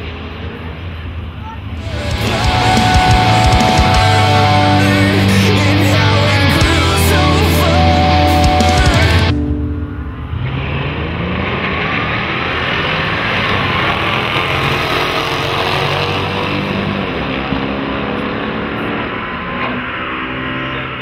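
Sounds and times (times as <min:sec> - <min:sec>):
truck engines accelerating hard: 0:00.0 - 0:21.0.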